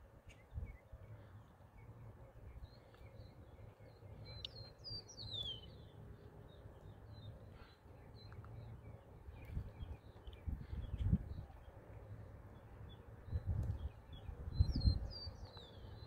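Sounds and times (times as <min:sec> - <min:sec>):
soft bird chirps: 0:00.2 - 0:16.0.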